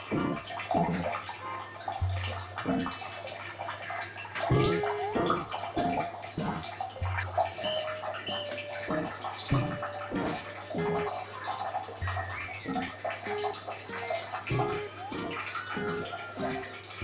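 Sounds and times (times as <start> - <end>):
water splashing from bird bathing: 0.0 - 17.0.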